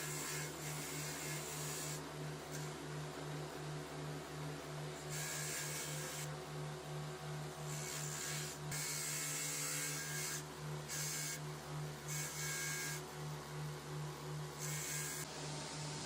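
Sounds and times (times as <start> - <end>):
pulsing mechanical hum: 0.0 - 16.0.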